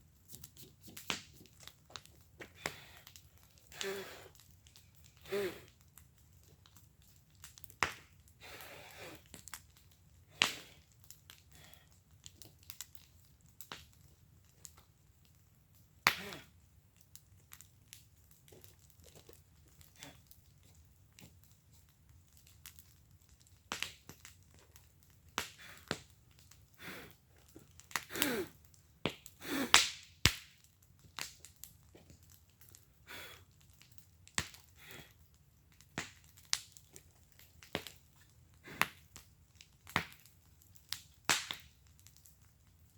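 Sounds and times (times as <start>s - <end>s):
burning wood popping: 0.0s - 42.9s
wood fire crackling: 0.0s - 42.9s.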